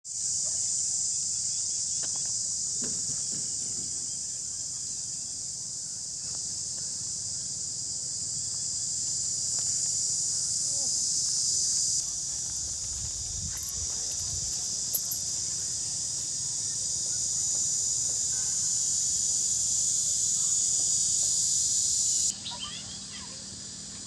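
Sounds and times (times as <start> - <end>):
insects buzzing: 0.1 - 24.0.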